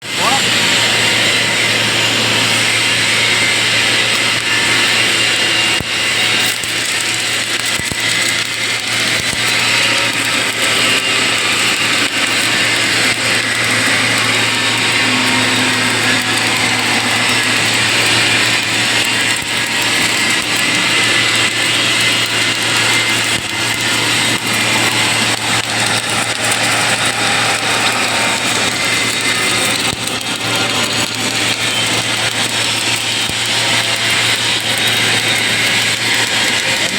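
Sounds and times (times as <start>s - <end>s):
welding machine hissing and humming: 0.0s - 36.9s.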